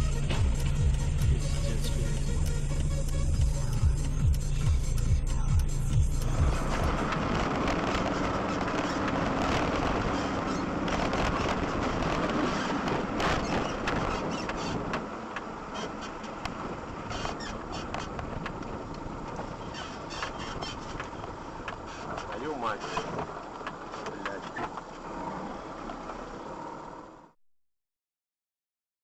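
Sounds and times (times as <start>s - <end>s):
car road and engine noise: 0.0s - 27.4s.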